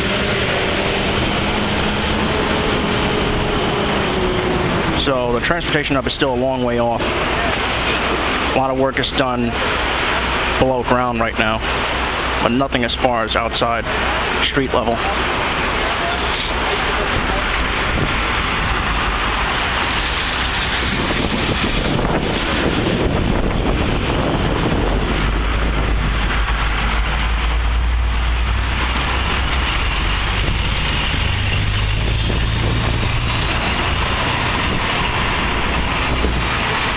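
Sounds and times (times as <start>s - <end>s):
heavy engine low rumble: 0.0s - 36.9s
passing motor traffic: 0.0s - 36.9s.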